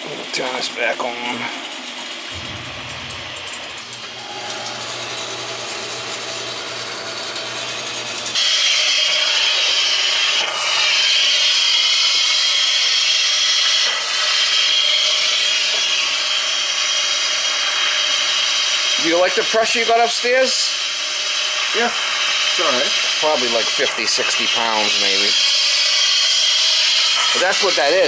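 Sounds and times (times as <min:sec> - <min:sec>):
water and air rushing from faucet: 0:00.0 - 0:28.0.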